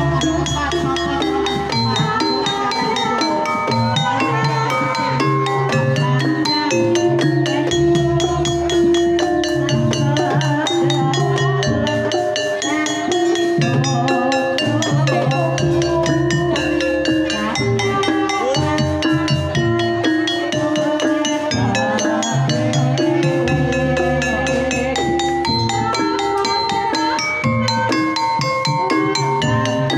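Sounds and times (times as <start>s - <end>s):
gamelan ringing struck notes: 0.0s - 29.9s
hand drum beat: 0.0s - 29.9s.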